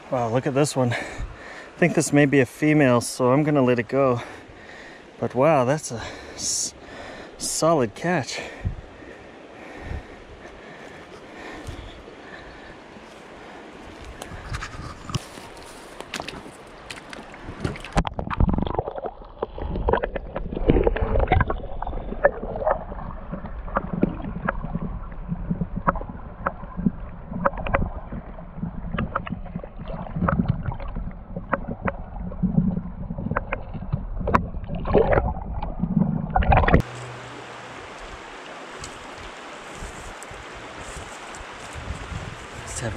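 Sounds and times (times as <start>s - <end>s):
muffled underwater water sloshing: 5.9s - 41.7s.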